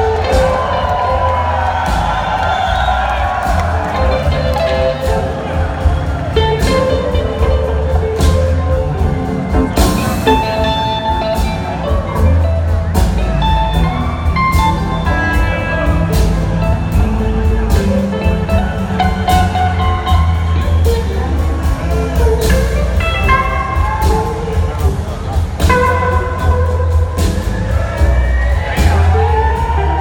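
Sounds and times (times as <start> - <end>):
blues rock band playing: 0.0 - 30.0
lead electric guitar: 3.4 - 30.0.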